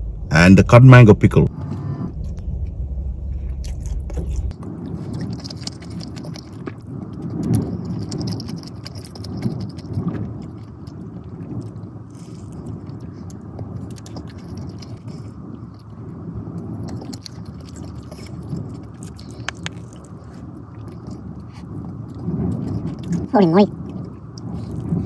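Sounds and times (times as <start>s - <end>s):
person chewing food: 3.4s - 25.0s.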